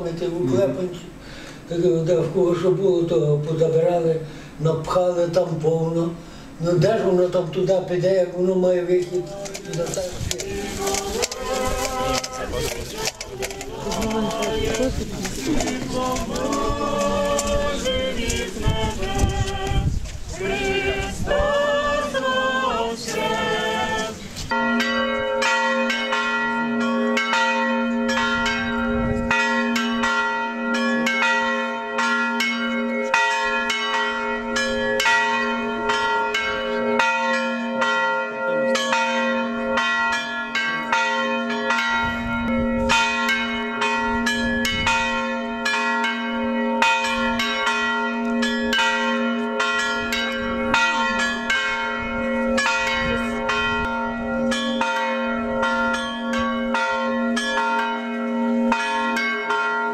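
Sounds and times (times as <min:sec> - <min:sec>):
church bells pealing: 0:06.8 - 0:19.8, 0:20.4 - 0:59.9.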